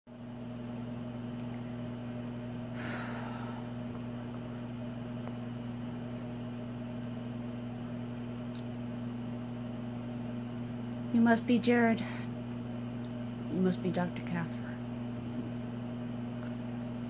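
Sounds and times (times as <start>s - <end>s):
electrical motor hum: 0.1s - 17.0s.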